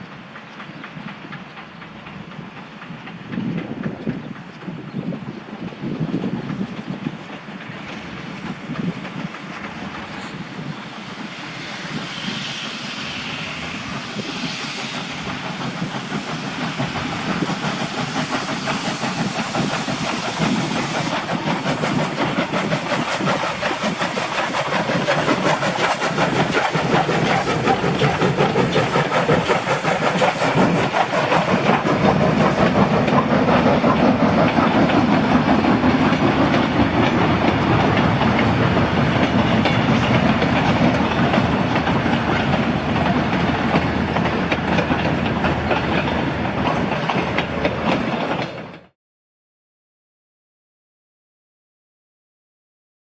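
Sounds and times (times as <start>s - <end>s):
steam hissing: 0.0s - 48.4s
steam locomotive: 0.0s - 49.0s.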